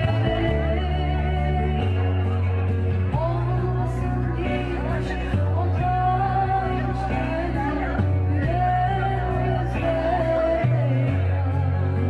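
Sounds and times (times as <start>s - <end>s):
held bass notes: 0.0s - 12.0s
song with sung melody: 0.0s - 12.0s.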